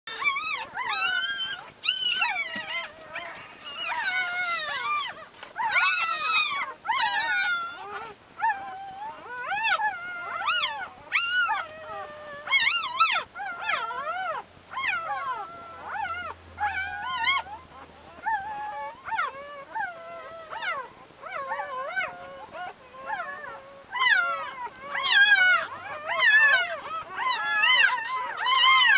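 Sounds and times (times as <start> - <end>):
puppies whimpering and squealing: 0.1 - 28.9.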